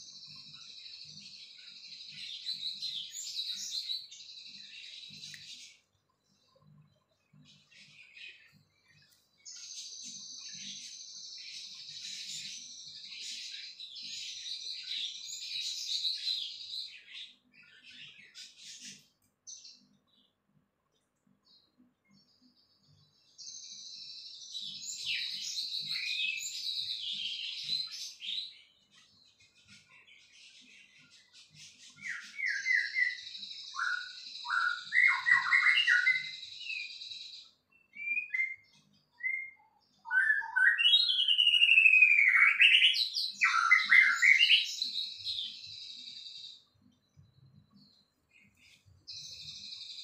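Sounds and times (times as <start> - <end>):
songbird singing: 0.0 - 50.0.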